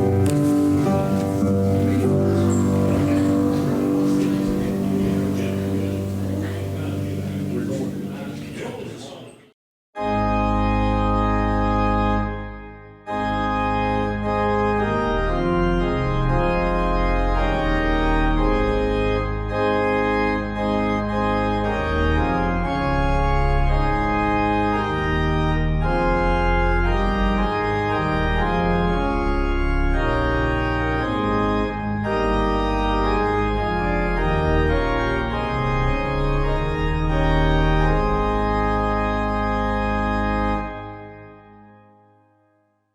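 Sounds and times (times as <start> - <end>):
organ playing sustained chords: 0.0 - 9.4, 10.0 - 42.2.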